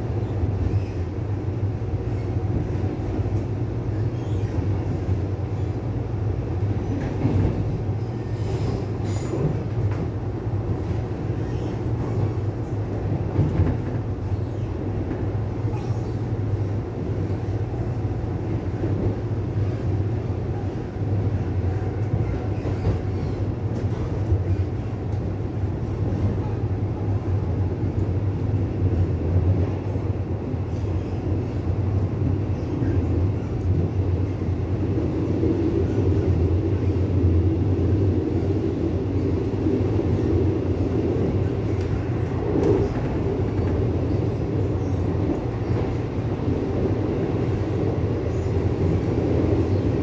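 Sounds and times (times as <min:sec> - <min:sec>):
train wheels rumbling: 0:00.0 - 0:50.0.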